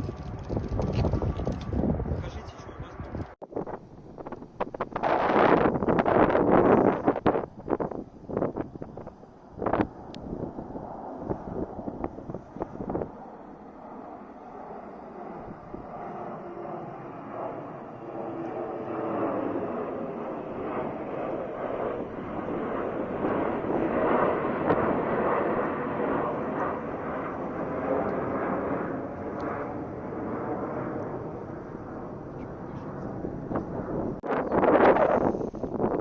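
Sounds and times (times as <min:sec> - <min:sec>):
jet engines at take-off thrust: 0:00.0 - 0:36.0.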